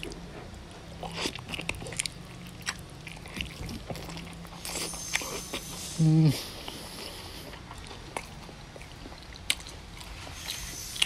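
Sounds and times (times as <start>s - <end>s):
wet chewing of meat: 0.0s - 11.0s.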